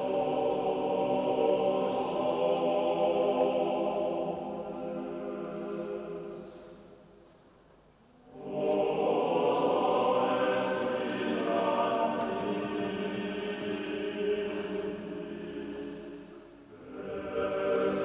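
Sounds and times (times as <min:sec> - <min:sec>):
choir singing unaccompanied: 0:00.0 - 0:06.9, 0:08.2 - 0:18.0.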